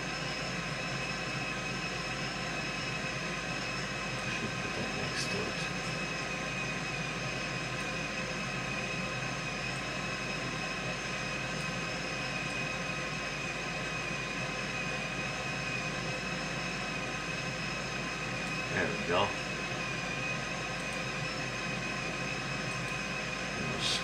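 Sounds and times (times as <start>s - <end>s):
machine whir with whining tones: 0.0s - 24.0s.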